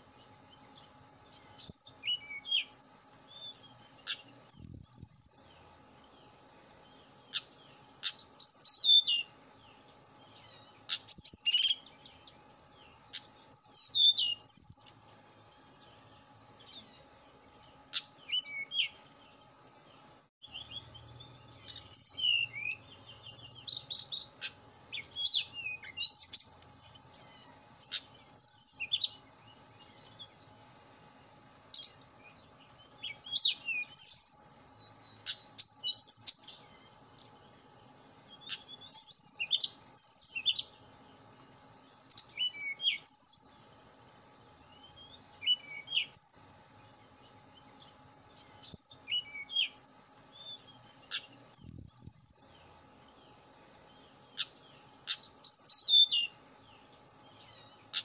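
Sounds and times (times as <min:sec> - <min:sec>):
bird singing whistled notes: 0:00.2 - 0:15.0, 0:15.7 - 0:19.8, 0:20.4 - 0:36.9, 0:37.5 - 0:40.8, 0:41.7 - 0:43.6, 0:44.2 - 0:46.5, 0:47.2 - 0:58.0.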